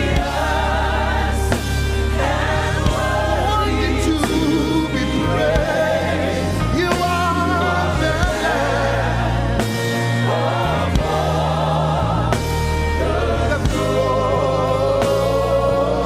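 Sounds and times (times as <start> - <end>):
choir singing with vibrato: 0.0 - 16.0
sustained keyboard and bass chords: 0.0 - 16.0.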